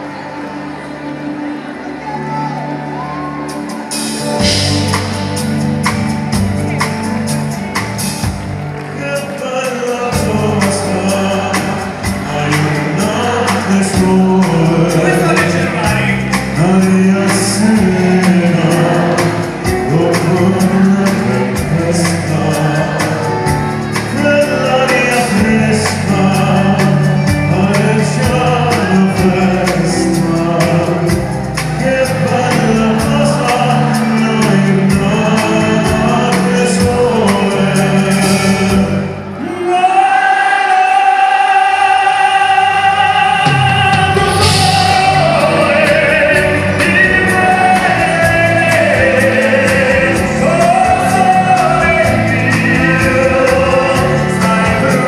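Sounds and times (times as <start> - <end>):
live concert music with singer: 0.0 - 55.0.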